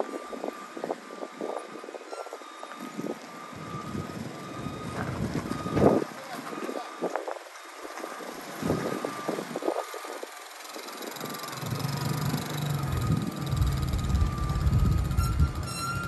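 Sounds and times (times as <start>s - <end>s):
small vehicle engine rumble: 0.0s - 16.0s.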